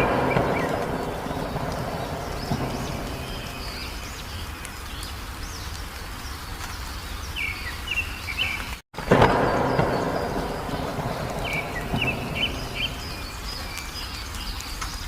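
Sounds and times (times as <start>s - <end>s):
rushing outdoor background noise: 0.0s - 15.0s
songbirds chirping: 0.0s - 15.0s.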